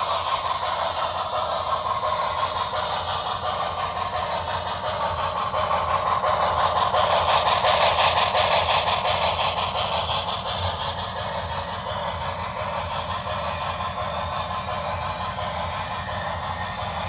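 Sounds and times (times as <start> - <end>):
model train steam chuffing: 0.0 - 17.0.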